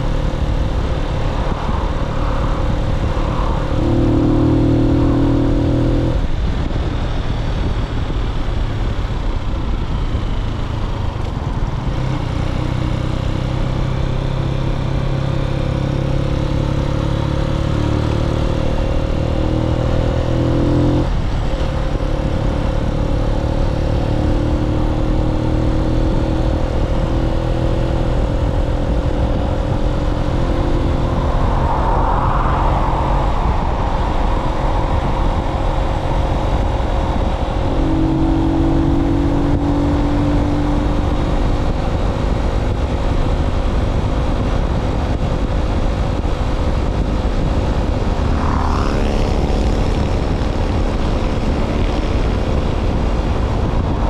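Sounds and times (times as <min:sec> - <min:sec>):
motorcycle engine accelerating: 0:00.0 - 0:54.0
wind rush over microphone: 0:00.0 - 0:54.0.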